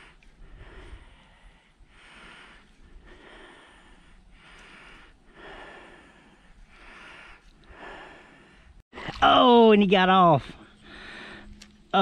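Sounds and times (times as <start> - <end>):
person breathing: 0.0 - 8.8, 10.7 - 11.6.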